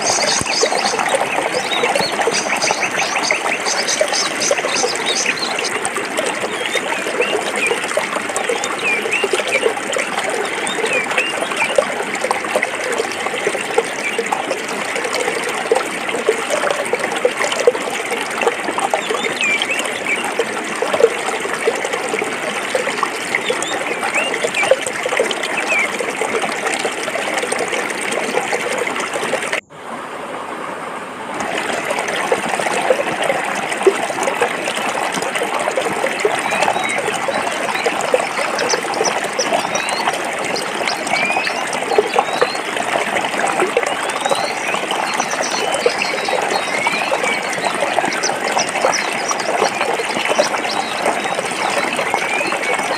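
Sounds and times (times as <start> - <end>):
stream flowing over rocks: 0.0 - 52.9.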